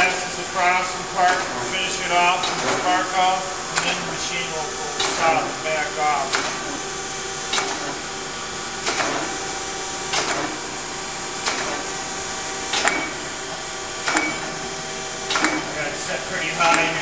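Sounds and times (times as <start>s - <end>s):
surface grinder humming: 0.0s - 17.0s.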